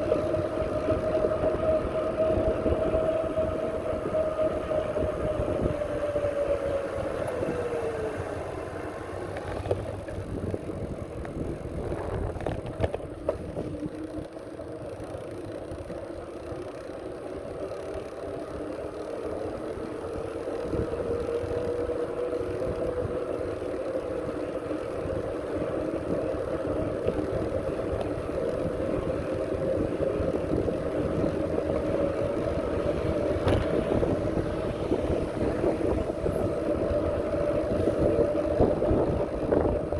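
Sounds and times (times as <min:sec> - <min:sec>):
wind rumbling on microphone: 0:00.0 - 0:14.4, 0:18.4 - 0:39.9.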